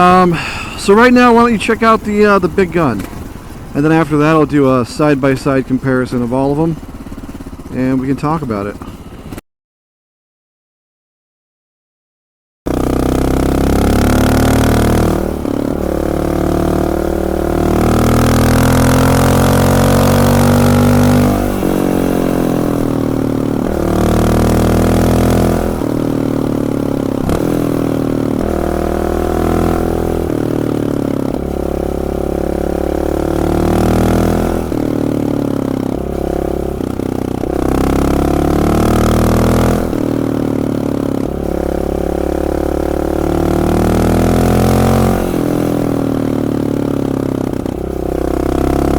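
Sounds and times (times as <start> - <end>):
motorcycle engine revving: 0.0 - 9.4, 12.7 - 48.9.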